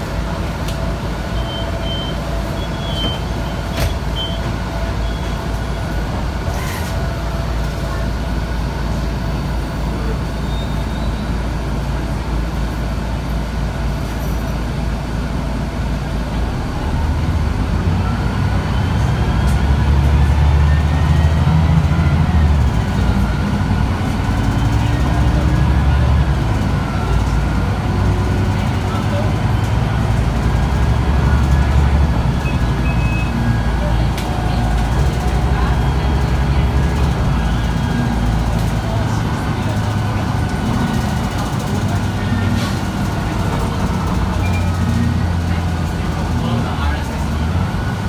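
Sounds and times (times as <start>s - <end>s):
bus diesel engine: 0.0s - 48.0s.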